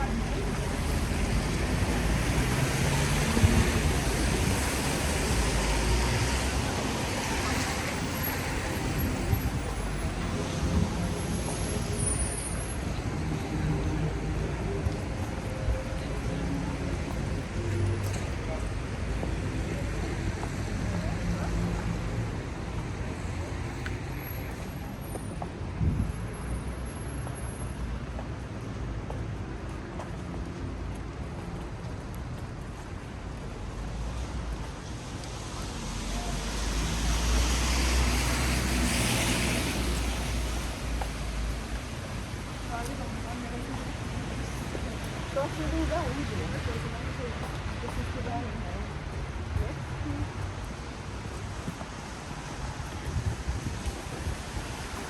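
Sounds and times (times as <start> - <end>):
low traffic rumble: 0.0 - 55.0.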